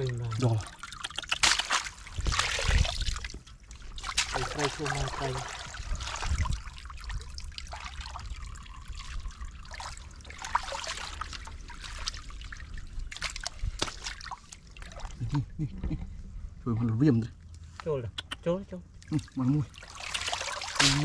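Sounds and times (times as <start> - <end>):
water sloshing and splashing: 0.0 - 15.5, 18.8 - 21.0.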